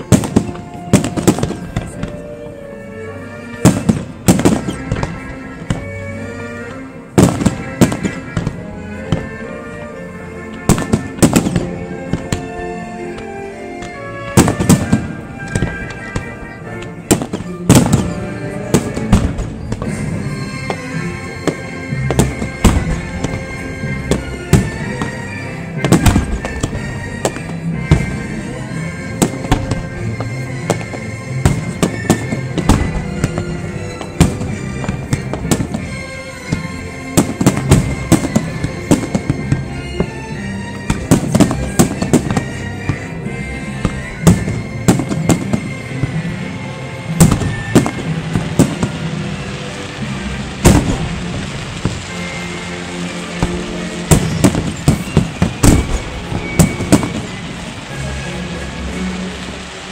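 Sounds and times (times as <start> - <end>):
fireworks bursting: 0.0 - 2.8, 3.4 - 59.9
music playing: 0.0 - 59.9.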